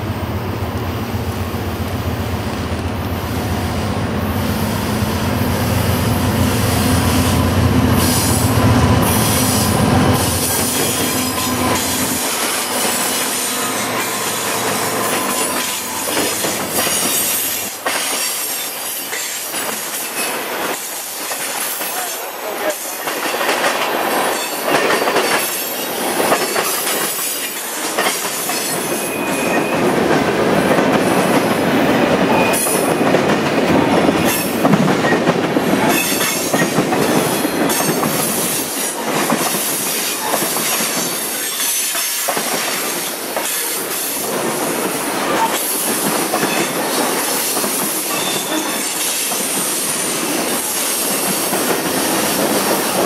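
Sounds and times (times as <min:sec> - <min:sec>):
train wheels clicking over rail joints: 0:09.0 - 0:53.0.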